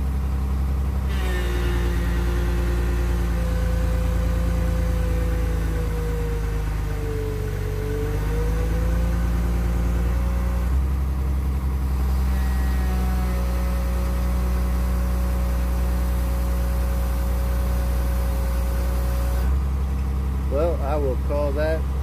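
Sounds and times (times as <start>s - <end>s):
engine whine: 0.0s - 22.0s
excavator diesel engine running: 0.0s - 22.0s.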